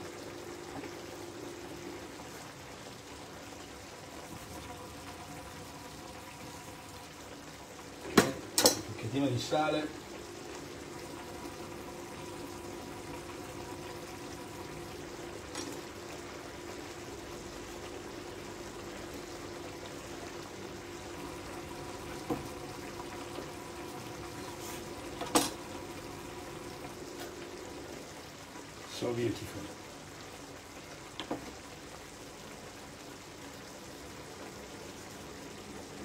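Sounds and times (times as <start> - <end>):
pan simmering and bubbling: 0.0 - 36.0.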